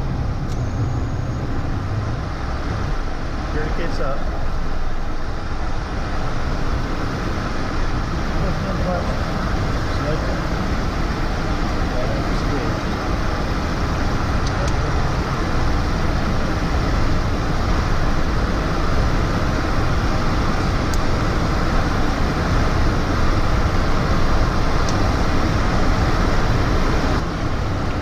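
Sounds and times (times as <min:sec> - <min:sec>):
jet engine and air rush: 0:00.0 - 0:28.0.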